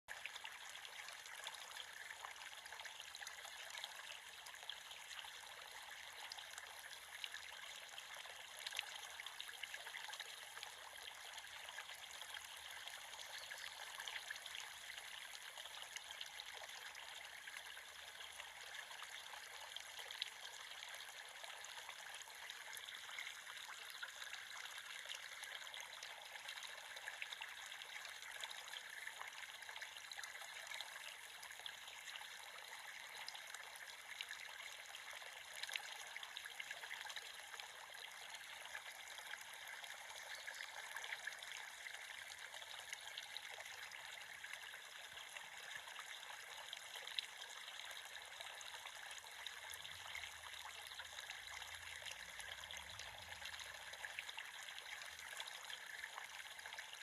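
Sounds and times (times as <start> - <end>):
creek babbling over stones: 0.1 - 57.0.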